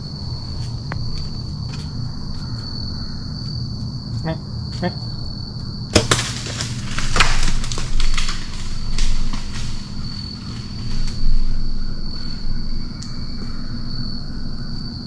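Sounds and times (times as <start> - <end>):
insect trill: 0.0 - 15.0.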